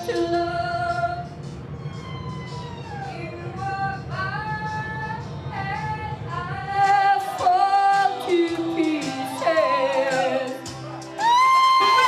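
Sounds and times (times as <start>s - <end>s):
woman singing karaoke: 0.0s - 1.4s, 3.0s - 12.0s
backing music: 0.0s - 12.0s.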